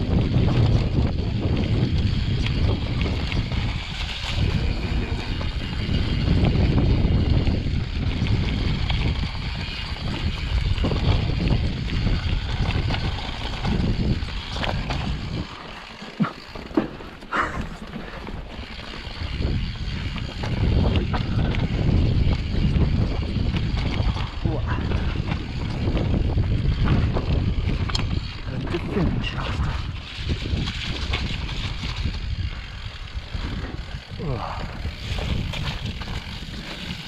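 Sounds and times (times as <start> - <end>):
bike tyre rumble: 0.0 - 37.0
wind buffeting microphone: 0.0 - 37.0.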